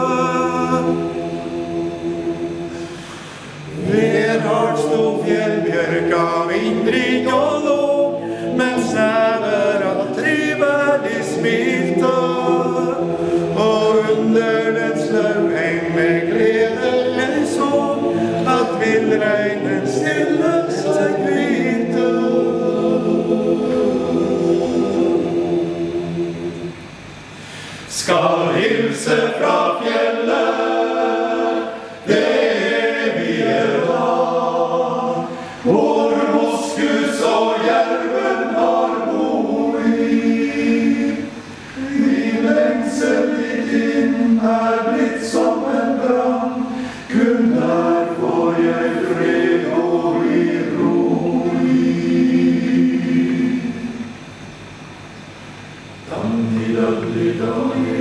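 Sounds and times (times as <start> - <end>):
men's choir singing a cappella: 0.0 - 54.3, 55.9 - 58.0.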